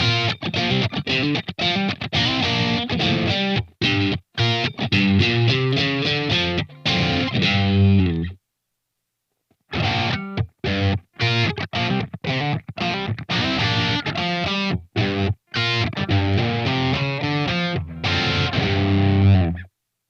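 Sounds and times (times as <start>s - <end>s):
distorted electric guitar chords: 0.0s - 8.4s, 9.7s - 19.7s.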